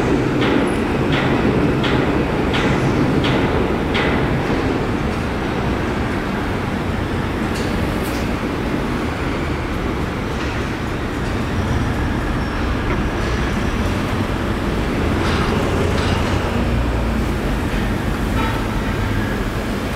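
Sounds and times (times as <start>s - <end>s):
low traffic rumble: 0.0s - 19.9s.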